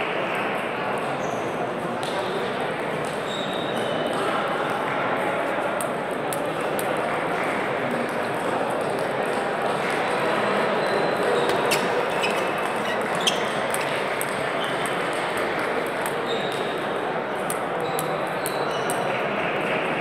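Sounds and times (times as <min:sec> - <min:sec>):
murmur of voices: 0:00.0 - 0:20.0.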